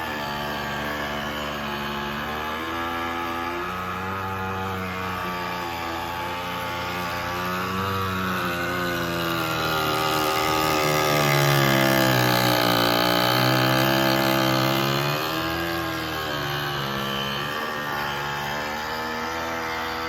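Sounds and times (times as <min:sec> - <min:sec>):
ice maker droning loudly: 0:00.0 - 0:20.0.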